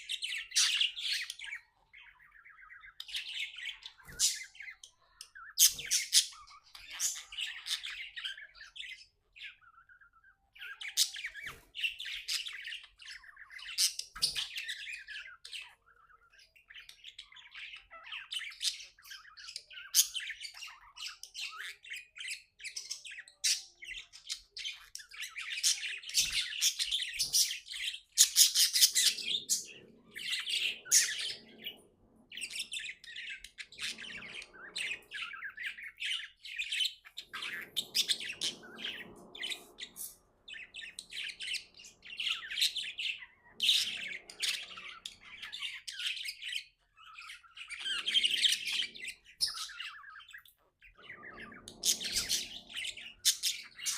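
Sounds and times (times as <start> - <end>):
budgie chirping and warbling: 0.0 - 53.9.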